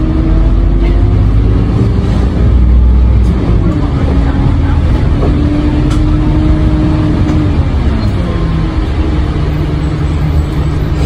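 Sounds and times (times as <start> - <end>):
bus diesel engine drone: 0.0 - 11.0
road noise: 0.0 - 11.0.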